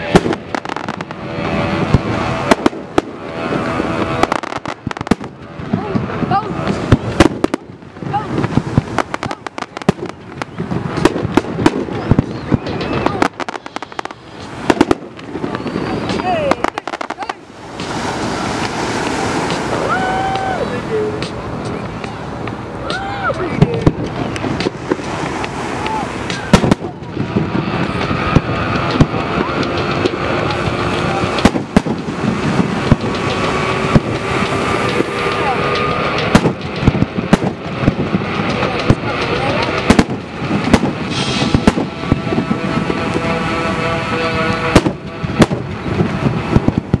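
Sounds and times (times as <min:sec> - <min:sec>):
dense background din: 0:00.0 - 0:47.0
fireworks bangs and crackling: 0:00.0 - 0:47.0
spectators' voices: 0:00.0 - 0:47.0.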